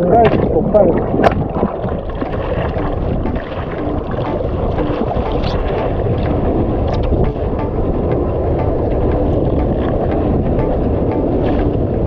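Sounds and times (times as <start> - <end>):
water splashing and sloshing: 0.0 - 12.0
wind buffeting microphone: 0.0 - 12.0.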